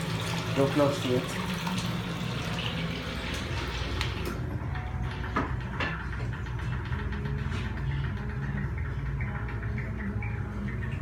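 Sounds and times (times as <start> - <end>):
exhaust fan humming: 0.0 - 11.0.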